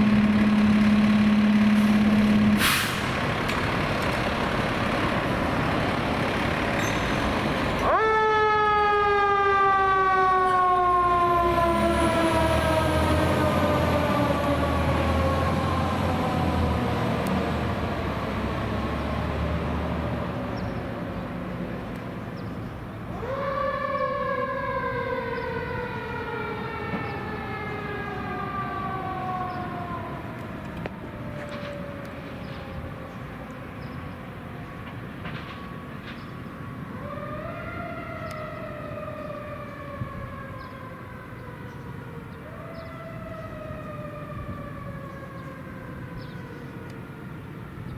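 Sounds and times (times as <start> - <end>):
fire engine siren: 0.0 - 47.9
truck engine rumbling: 0.0 - 47.9.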